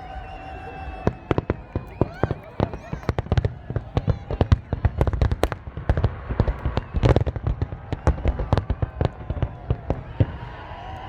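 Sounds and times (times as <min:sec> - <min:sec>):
fireworks bangs and pops: 0:01.0 - 0:11.0.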